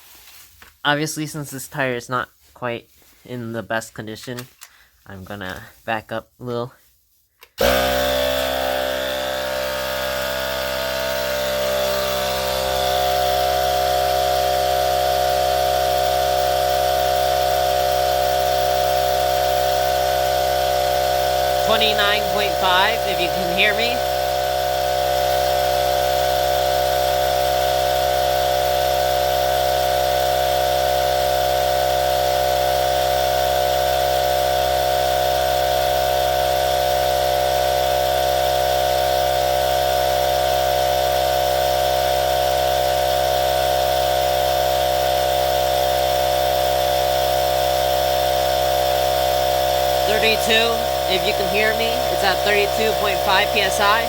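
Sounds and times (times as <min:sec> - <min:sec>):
air compressor running: 0:07.4 - 0:54.0.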